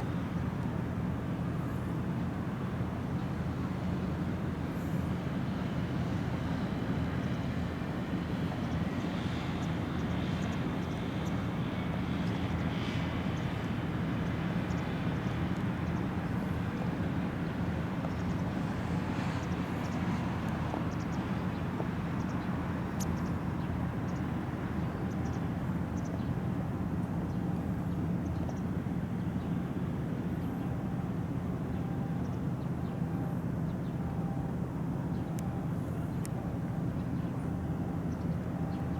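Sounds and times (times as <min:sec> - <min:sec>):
ferry diesel engine drone: 0:00.0 - 0:38.9.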